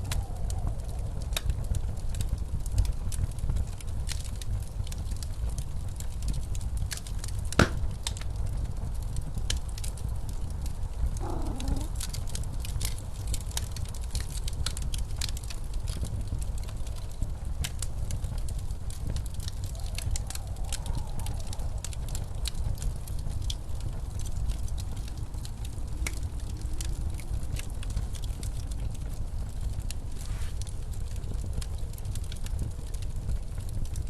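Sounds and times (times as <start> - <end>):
blizzard wind rumble: 0.0 - 34.0
fireplace crackling and popping: 0.0 - 34.0.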